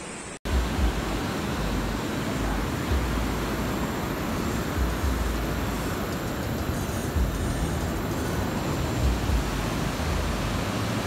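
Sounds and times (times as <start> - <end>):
wind buffeting microphone: 0.5 - 11.0.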